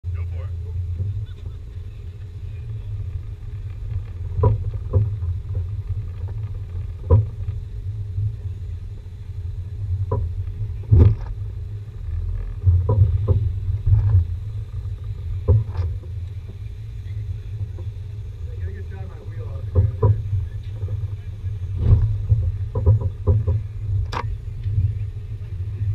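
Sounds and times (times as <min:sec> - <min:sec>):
vehicle engine rumble: 0:00.0 - 0:25.9
suspension knocks and thumps: 0:00.8 - 0:25.9.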